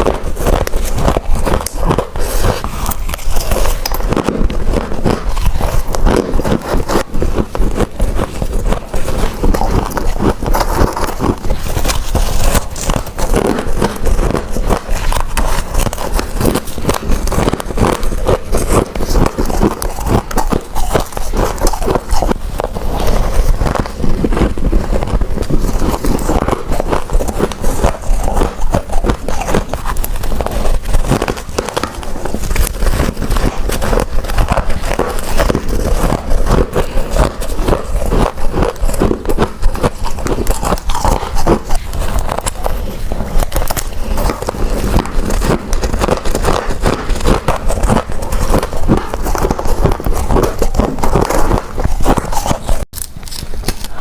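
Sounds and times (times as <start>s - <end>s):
chewing crunchy ice: 0.0s - 54.0s.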